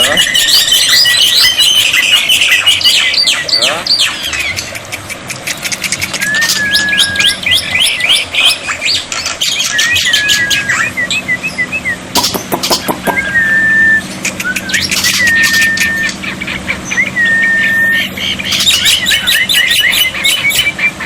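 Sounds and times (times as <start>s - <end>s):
harsh noisy bird chatter: 0.0s - 21.0s
starling chirps and whistles: 0.0s - 21.0s.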